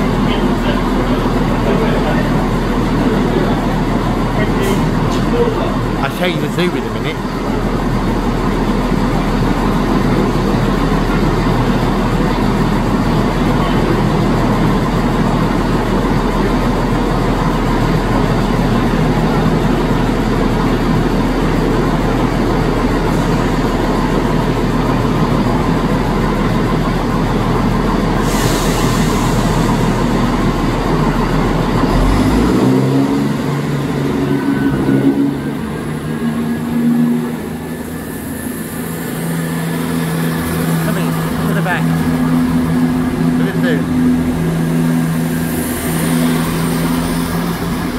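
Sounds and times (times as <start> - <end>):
diesel train engine drone: 0.0 - 47.9
train engine moving off: 0.0 - 47.9.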